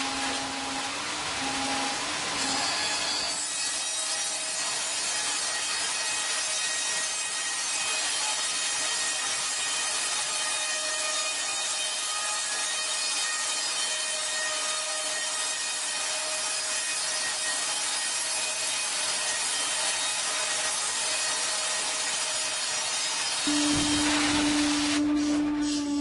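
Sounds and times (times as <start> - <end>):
band saw cutting log: 0.0 - 26.0.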